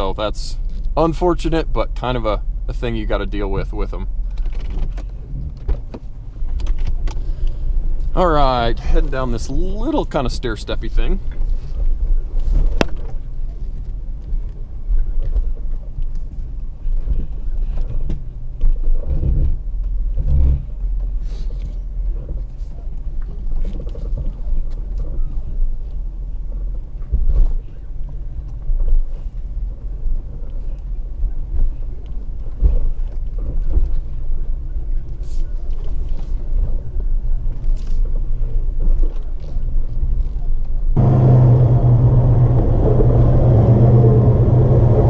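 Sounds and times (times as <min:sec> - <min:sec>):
engine and drivetrain rumble: 0:00.0 - 0:45.0.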